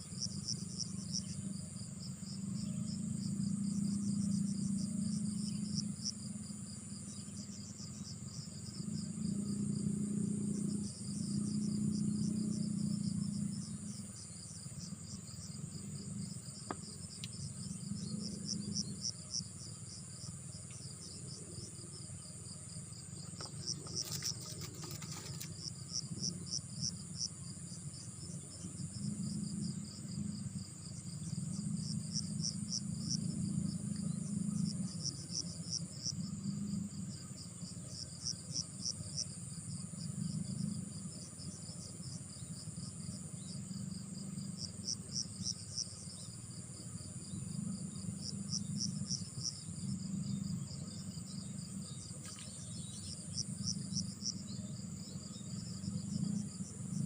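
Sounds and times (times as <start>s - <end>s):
insects droning: 0.0s - 57.0s
rapid insect chirps: 0.0s - 57.0s.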